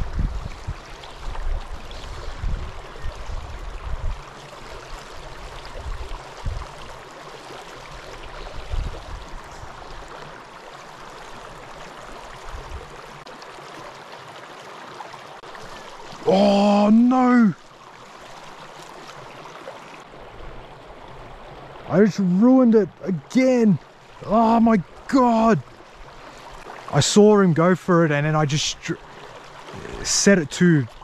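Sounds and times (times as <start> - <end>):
stream running over rocks: 0.0 - 31.0.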